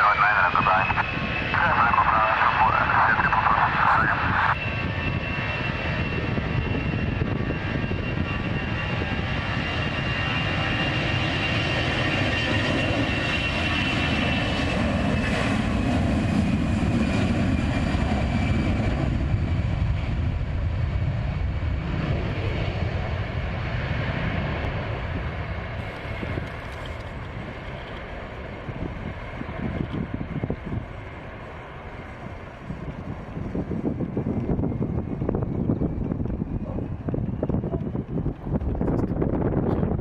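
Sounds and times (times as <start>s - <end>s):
jet engines rumble and whine: 0.0s - 40.0s.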